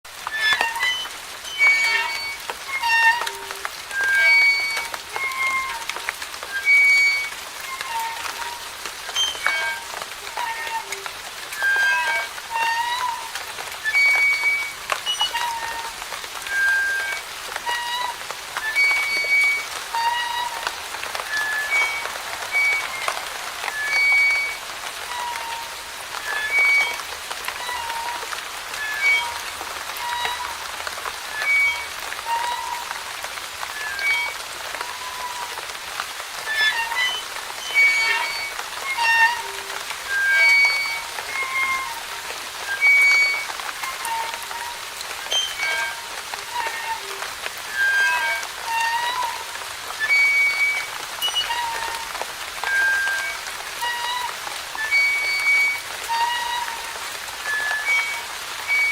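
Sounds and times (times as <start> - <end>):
light rain pattering: 0.0 - 58.9
swing creaking: 0.0 - 58.9.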